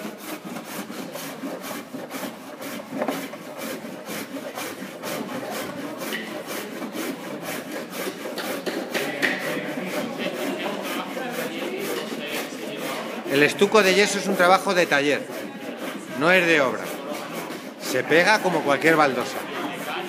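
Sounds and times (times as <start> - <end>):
rasp scraping stucco tile: 0.0 - 20.0.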